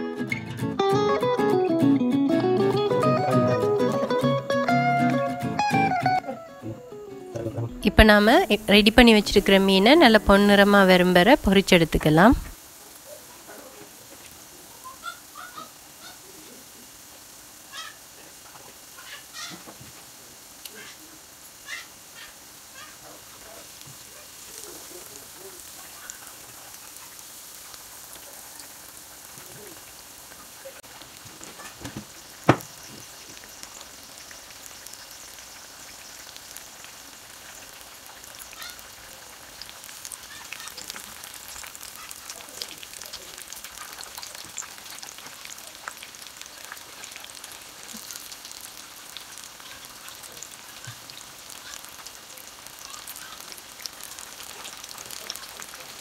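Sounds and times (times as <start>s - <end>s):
fish deep-frying in hot oil: 7.7s - 56.0s.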